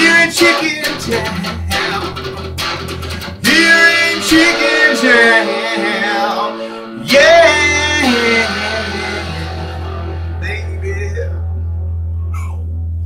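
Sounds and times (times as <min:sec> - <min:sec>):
electric guitar blues lead: 0:00.0 - 0:12.9.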